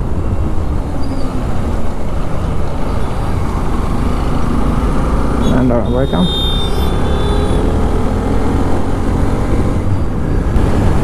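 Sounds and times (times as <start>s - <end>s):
motorcycle engine: 0.0s - 11.0s
road traffic rumble: 0.0s - 11.0s.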